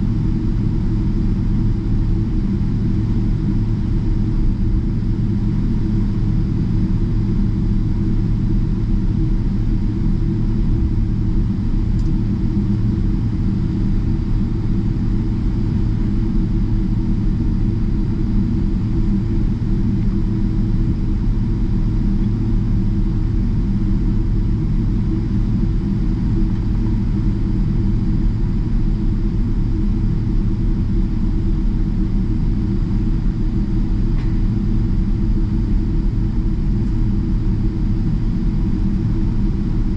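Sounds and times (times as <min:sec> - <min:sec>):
airplane cabin low rumble: 0:00.0 - 0:39.9.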